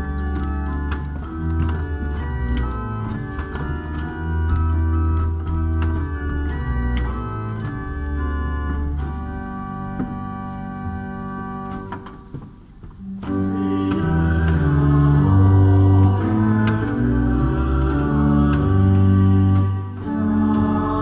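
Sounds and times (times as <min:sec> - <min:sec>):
pipe organ playing a hymn: 0:00.0 - 0:21.0.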